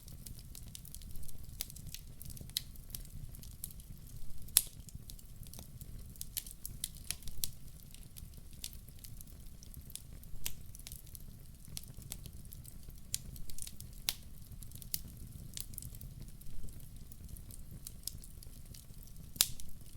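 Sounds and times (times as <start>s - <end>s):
fireplace fire crackling: 0.0s - 19.9s.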